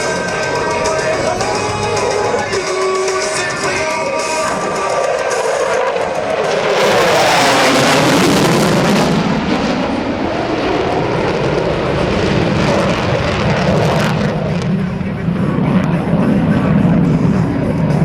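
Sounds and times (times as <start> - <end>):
jet fly-by roar: 0.0 - 18.0.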